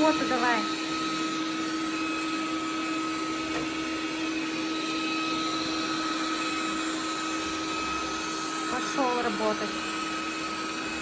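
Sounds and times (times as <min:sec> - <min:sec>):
robot vacuum running: 0:00.0 - 0:11.0.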